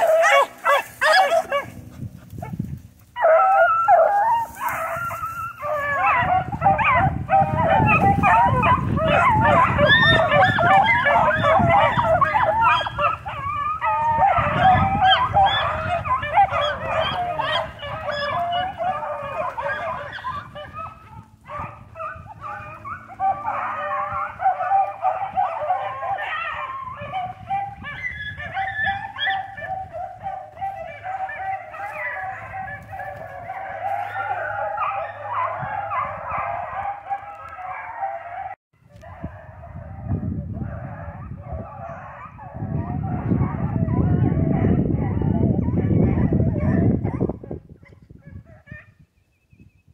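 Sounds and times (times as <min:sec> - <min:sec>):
pack of hounds baying: 0:00.0 - 0:48.8.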